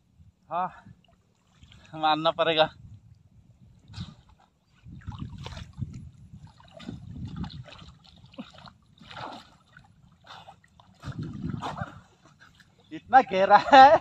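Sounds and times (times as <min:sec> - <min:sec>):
river water sloshing and splashing: 0:01.0 - 0:02.6, 0:03.6 - 0:13.5.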